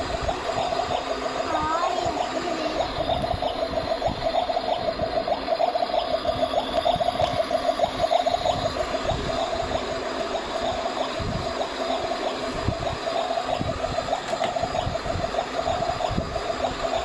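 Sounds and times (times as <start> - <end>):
water trickling and gurgling: 0.0 - 17.0
wavering hum: 0.0 - 17.0.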